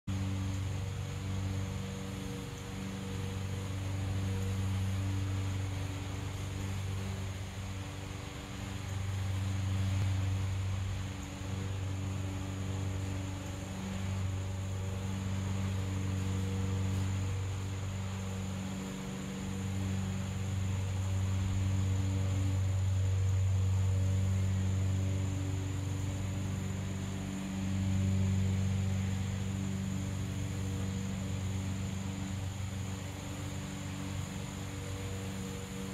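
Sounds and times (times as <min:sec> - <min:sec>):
faint high whine: 0:00.0 - 0:35.9
light hiss: 0:00.1 - 0:35.9
motor humming: 0:00.1 - 0:35.9.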